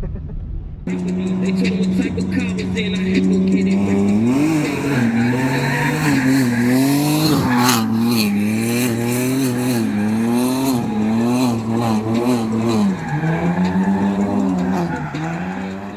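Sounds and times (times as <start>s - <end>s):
car engine at high revs: 0.9s - 15.9s
tyres skidding on wet track: 0.9s - 15.9s.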